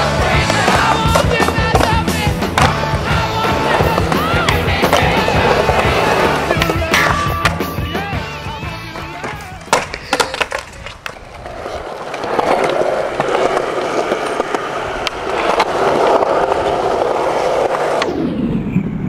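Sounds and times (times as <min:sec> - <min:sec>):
skateboard clacks: 0:00.0 - 0:18.1
skateboard wheels rolling on concrete: 0:00.0 - 0:19.0.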